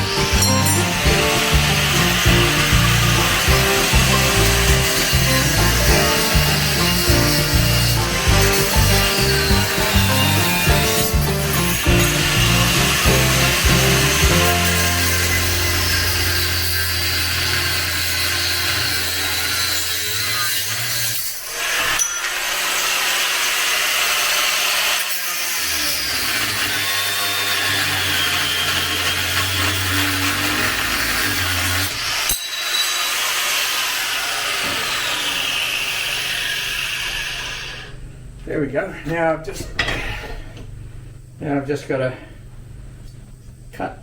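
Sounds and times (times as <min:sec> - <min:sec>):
angle grinder cutting metal: 0:00.0 - 0:38.0.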